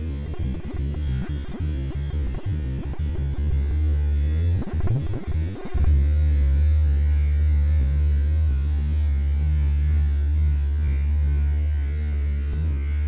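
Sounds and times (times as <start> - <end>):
loud low buzzing hum: 0.0 - 13.0.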